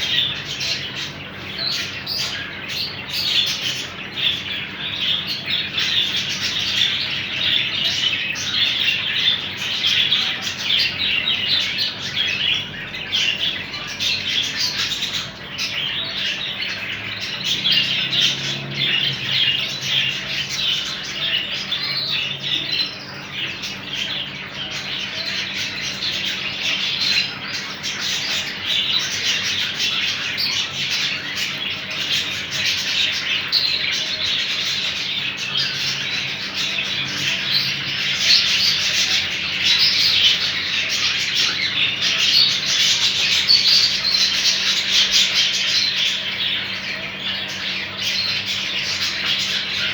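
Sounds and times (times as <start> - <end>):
flock of birds chirping: 0.0 - 49.9.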